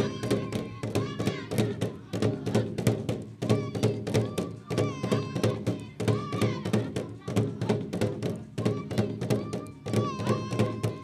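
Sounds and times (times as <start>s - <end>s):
drums beaten with sticks: 0.0s - 11.0s.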